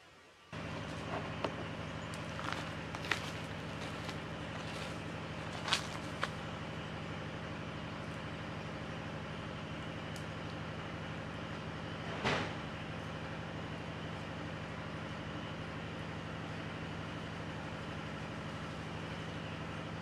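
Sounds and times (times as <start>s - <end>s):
low motor hum: 0.5s - 20.0s.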